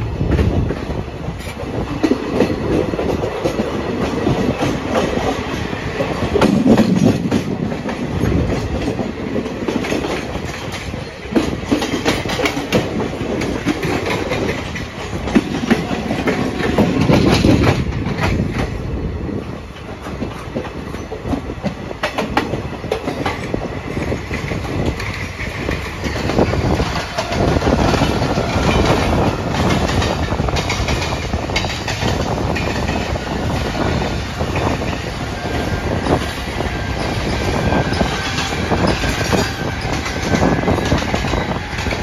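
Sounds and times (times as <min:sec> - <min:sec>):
train wheel-on-rail noise: 0:00.0 - 0:42.0
wheels clicking over rail joints: 0:00.3 - 0:18.8, 0:19.7 - 0:42.0.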